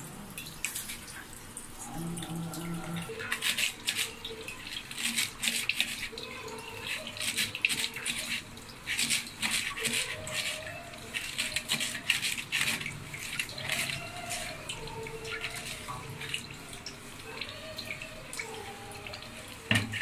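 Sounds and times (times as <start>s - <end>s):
water splashing in steel sink: 0.0s - 20.0s.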